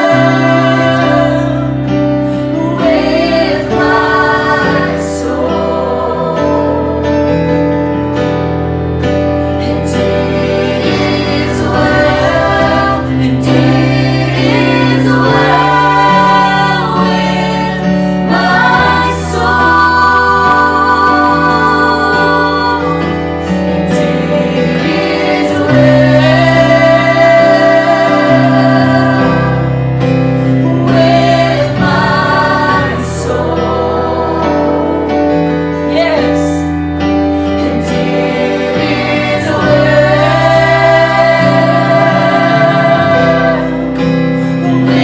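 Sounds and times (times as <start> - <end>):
worship band with singers: 0.0 - 45.0.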